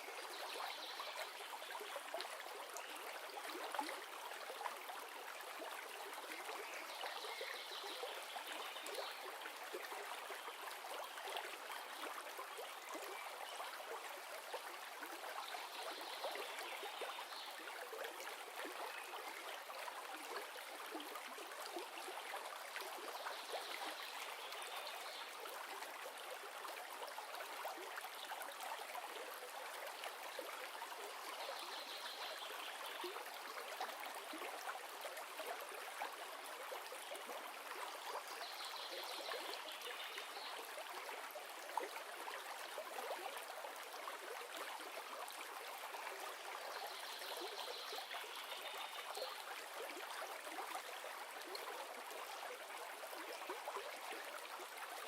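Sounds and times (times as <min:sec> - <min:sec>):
river water over stones: 0:00.0 - 0:55.0.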